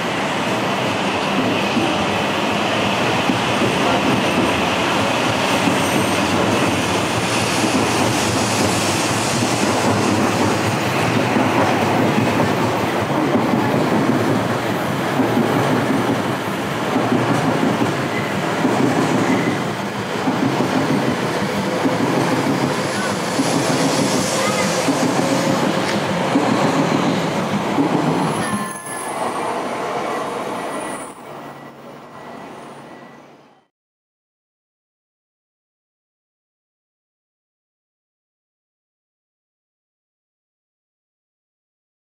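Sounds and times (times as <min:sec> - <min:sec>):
train running noise: 0:00.0 - 0:33.7.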